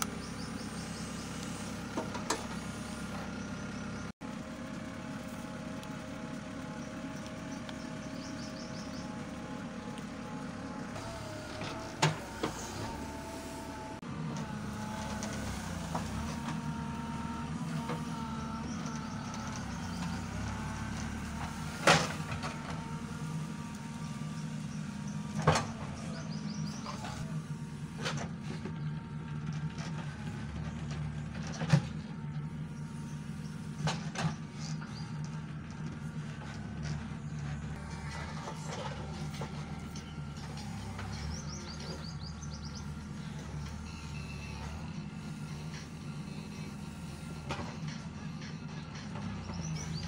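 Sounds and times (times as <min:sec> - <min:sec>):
diesel engine running: 0:00.0 - 0:50.0
engine whine: 0:00.0 - 0:50.0.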